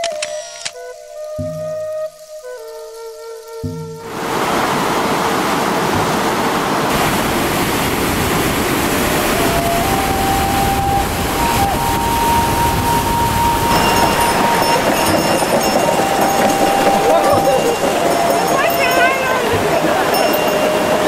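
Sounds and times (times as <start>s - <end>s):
white-water river rushing: 4.0s - 21.0s.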